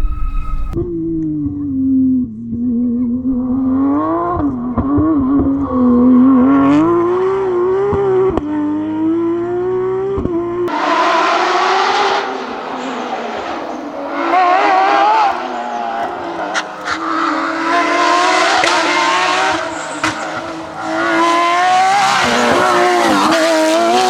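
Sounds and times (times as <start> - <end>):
racing engine revving: 1.2 - 24.0.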